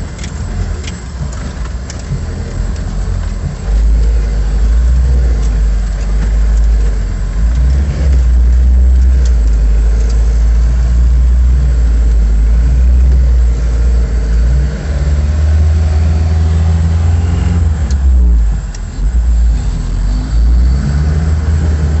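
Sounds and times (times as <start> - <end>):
car engine revving while driving: 0.0 - 22.0.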